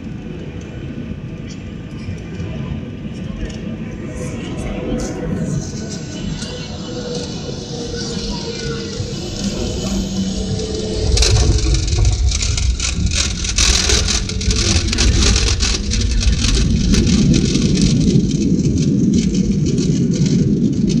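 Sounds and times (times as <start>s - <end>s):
jet engines rushing: 0.0s - 21.0s
wheels on runway: 0.4s - 21.0s
deep engine rumble: 1.1s - 21.0s.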